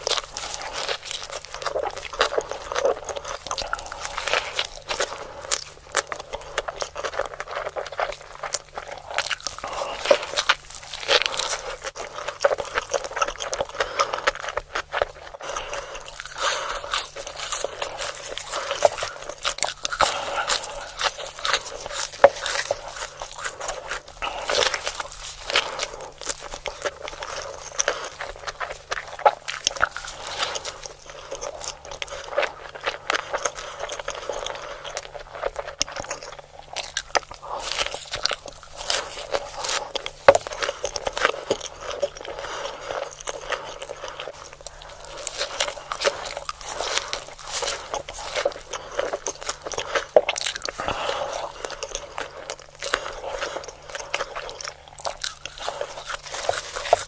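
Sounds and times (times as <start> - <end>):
crunchy chewing: 0.0 - 57.0.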